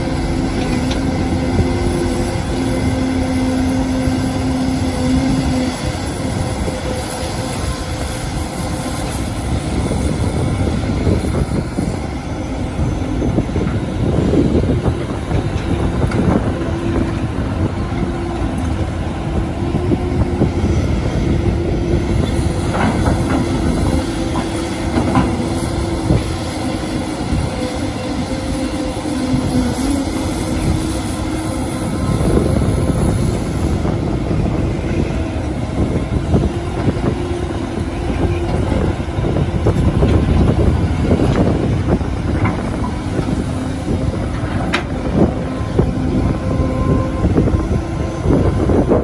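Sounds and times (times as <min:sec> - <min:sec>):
diesel engine rumble: 0:00.0 - 0:49.0
hydraulic hum: 0:00.0 - 0:49.0.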